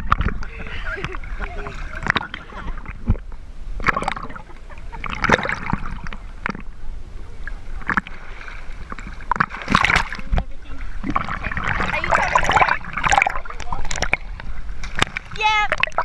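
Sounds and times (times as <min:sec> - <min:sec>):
low steady rumble: 0:00.0 - 0:16.0
water splashing around a boat: 0:00.0 - 0:16.0.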